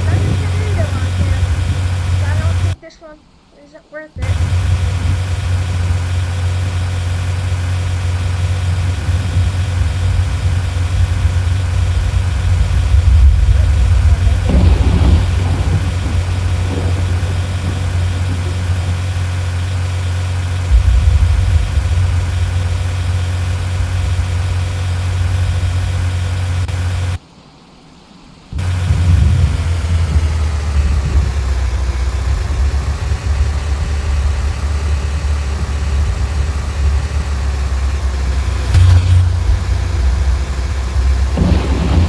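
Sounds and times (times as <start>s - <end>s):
vehicle engine idling: 0.0s - 2.8s, 4.2s - 27.2s, 28.6s - 42.0s.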